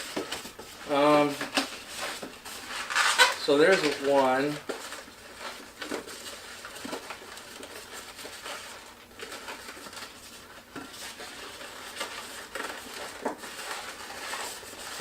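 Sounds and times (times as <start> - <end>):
balloons rubbing and clicking: 0.0 - 15.0.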